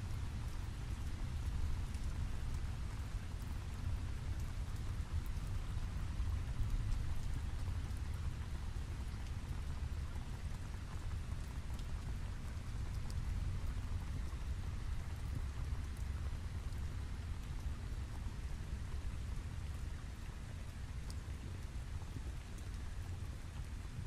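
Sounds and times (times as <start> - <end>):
rain drops ticking: 0.0 - 24.0
steady rain: 0.0 - 24.0.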